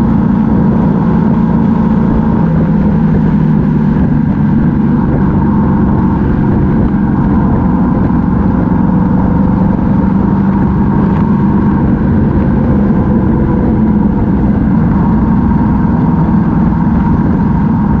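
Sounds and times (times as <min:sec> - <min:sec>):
motorcycle engine cruising: 0:00.0 - 0:18.0
wind rumbling on microphone: 0:00.0 - 0:18.0.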